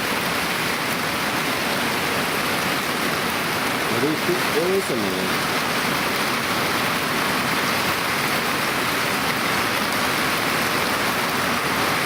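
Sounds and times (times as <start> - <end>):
heavy pouring rain: 0.0 - 12.0.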